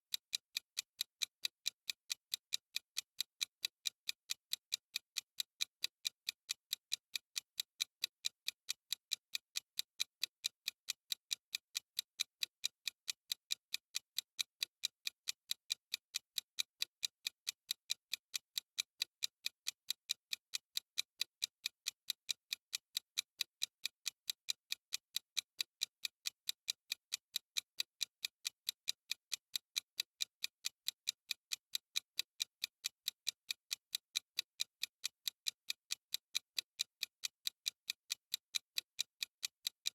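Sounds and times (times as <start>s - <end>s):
clock ticking: 0.1s - 39.9s.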